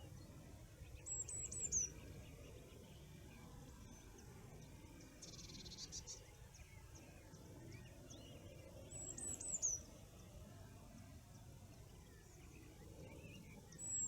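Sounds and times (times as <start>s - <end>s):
low steady background noise: 0.0s - 14.0s
songbirds singing: 0.0s - 14.0s.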